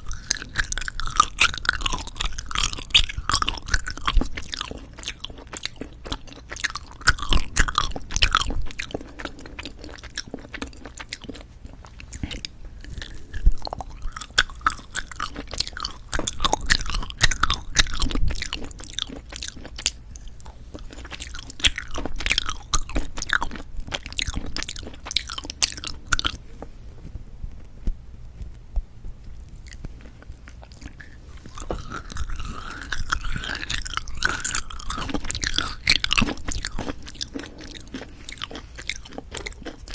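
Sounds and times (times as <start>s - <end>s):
chewing and biting candy: 0.0s - 26.7s, 29.2s - 39.9s.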